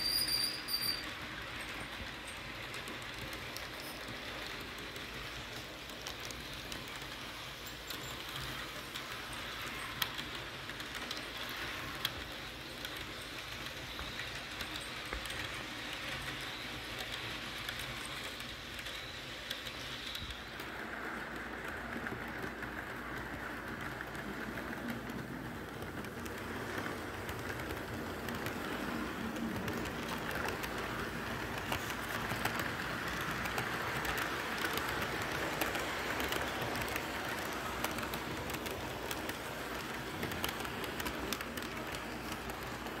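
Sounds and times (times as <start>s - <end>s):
model train wheels rumbling on rails: 0.0s - 43.0s.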